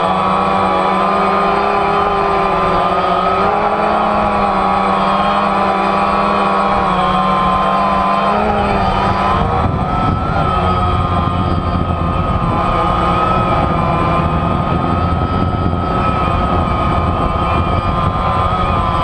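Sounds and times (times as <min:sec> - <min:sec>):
drone motors whining: 0:00.0 - 0:19.0
rushing prop wash: 0:00.0 - 0:19.0.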